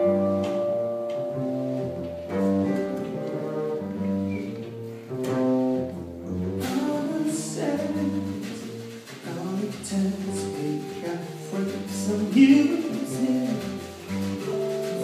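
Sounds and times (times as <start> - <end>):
small jazz band playing: 0.0 - 15.0.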